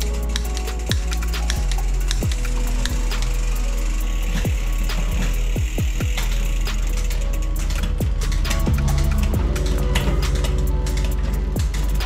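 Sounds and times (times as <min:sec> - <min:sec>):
electronic beat music: 0:00.0 - 0:12.0.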